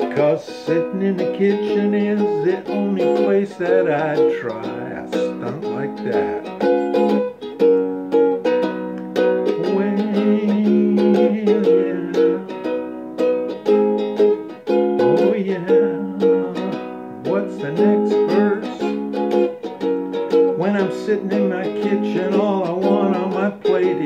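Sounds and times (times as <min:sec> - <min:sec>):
ukulele strumming: 0:00.0 - 0:24.0.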